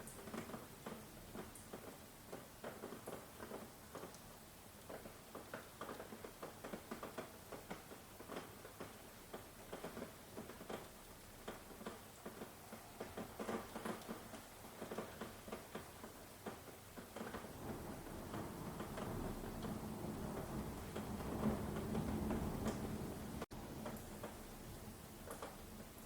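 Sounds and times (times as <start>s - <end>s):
rain hiss: 0.0s - 26.0s
raindrops pattering: 0.0s - 26.0s.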